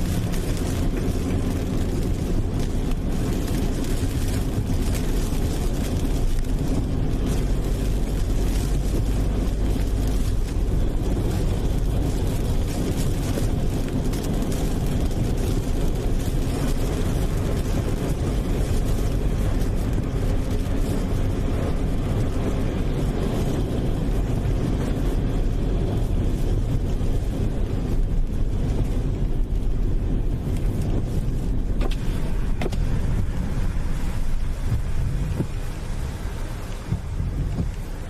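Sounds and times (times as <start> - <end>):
steady low rumbling: 0.0 - 38.0.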